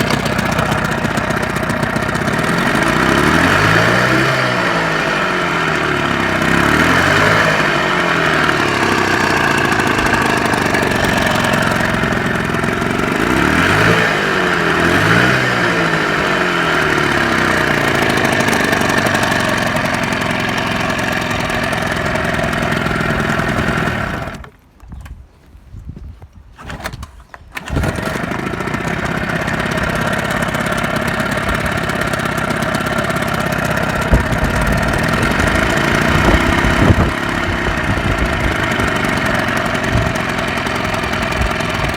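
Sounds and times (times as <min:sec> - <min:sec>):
outboard motor revving: 0:00.0 - 0:24.5, 0:27.6 - 0:41.9.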